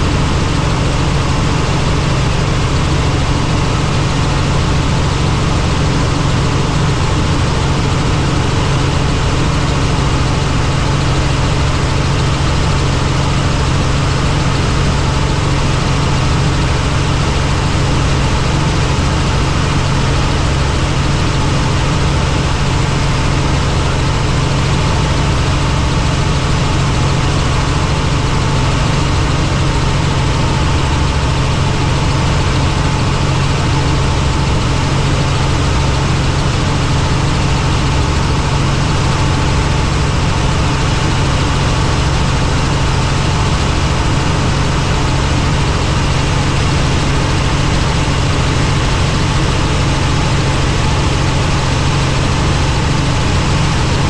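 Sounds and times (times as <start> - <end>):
helicopter engine and rotors: 0.0 - 54.0.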